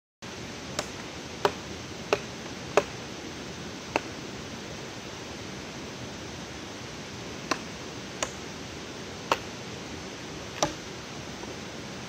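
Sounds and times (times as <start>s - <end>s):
steady background hiss: 0.2s - 12.0s.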